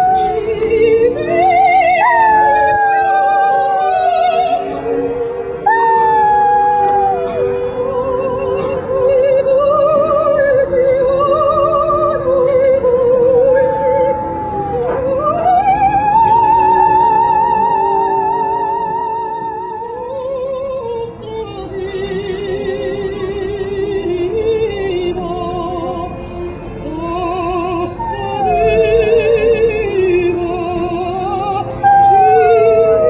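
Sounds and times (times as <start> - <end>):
operatic singing with vibrato: 0.0 - 33.0
sustained accompaniment: 0.0 - 33.0.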